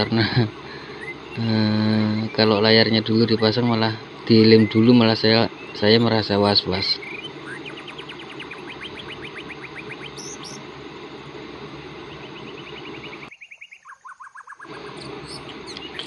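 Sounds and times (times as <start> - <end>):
steady hiss: 0.0 - 13.3
rapid trilling chirps: 0.0 - 16.0.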